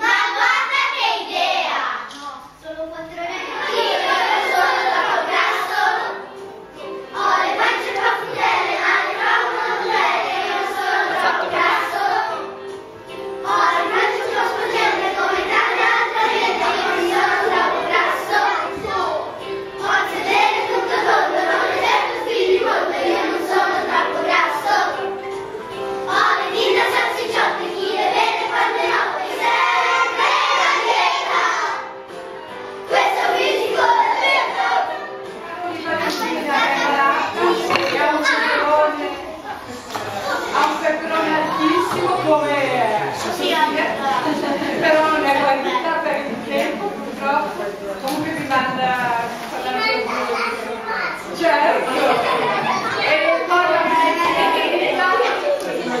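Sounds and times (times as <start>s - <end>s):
children singing: 0.0s - 2.2s, 3.1s - 45.8s, 50.0s - 56.0s.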